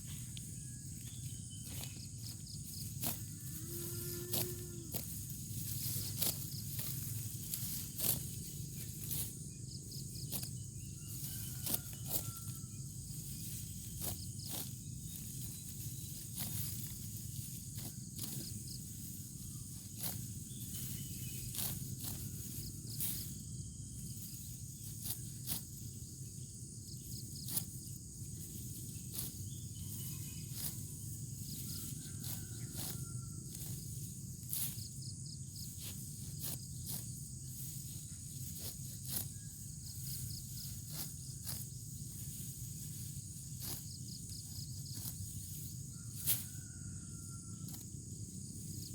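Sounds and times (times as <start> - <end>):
high-pitched insect buzzing: 0.0 - 26.2, 26.8 - 48.9
low outdoor rumble: 0.0 - 46.0.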